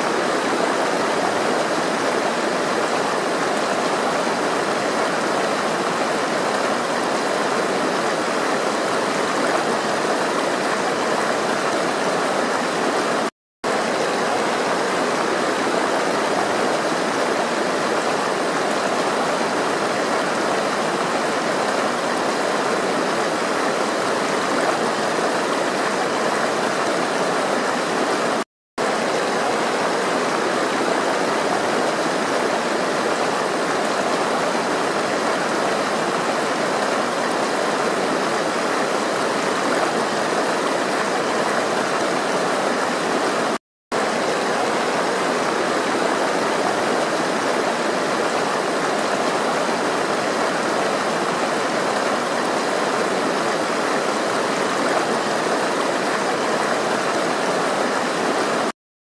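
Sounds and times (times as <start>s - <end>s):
flowing water rushing: 0.0s - 58.8s.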